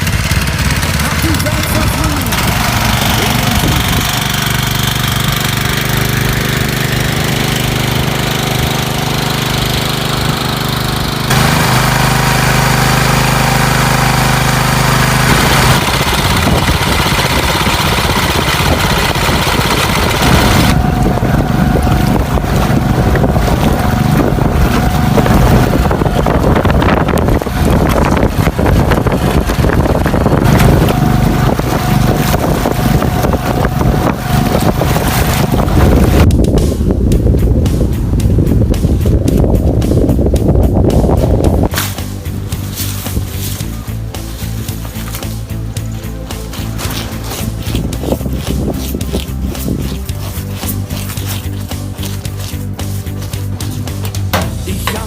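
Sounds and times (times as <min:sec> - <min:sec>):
boat engine running: 0:00.0 - 0:55.0
wind: 0:00.0 - 0:55.0.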